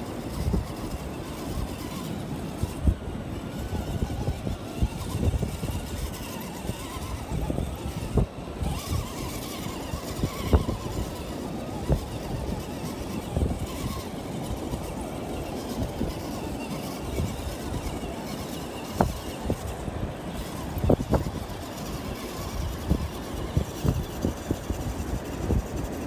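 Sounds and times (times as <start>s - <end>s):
small electric motors whining: 0.0s - 26.0s.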